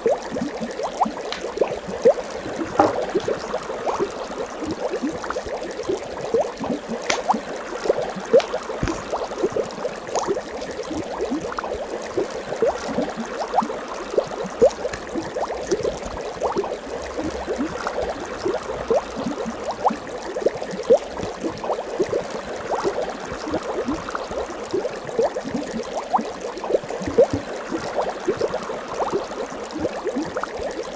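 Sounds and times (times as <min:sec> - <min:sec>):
water bubbling: 0:00.0 - 0:30.9.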